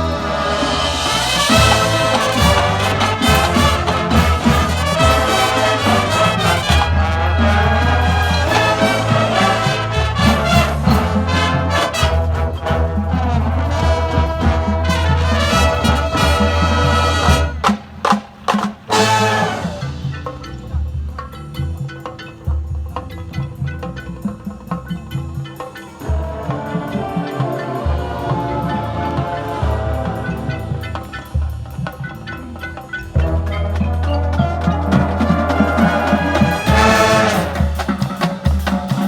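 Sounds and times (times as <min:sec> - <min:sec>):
brass band playing: 0:00.0 - 0:20.9, 0:25.5 - 0:39.0.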